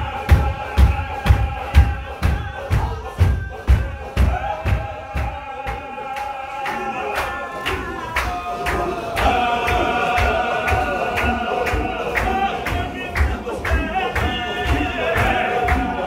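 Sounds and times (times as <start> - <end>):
men chanting long held notes: 0.0 - 16.0
rhythmic stamping steps: 0.0 - 16.0.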